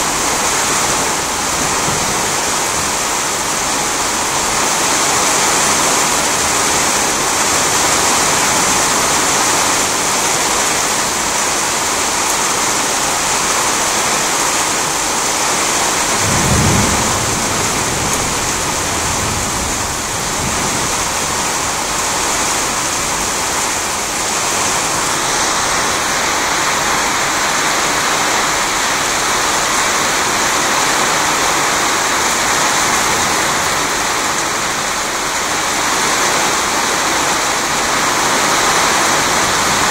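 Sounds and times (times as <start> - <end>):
thunder rumbling: 0.0 - 9.6, 15.6 - 39.9
heavy rain falling: 0.0 - 39.9.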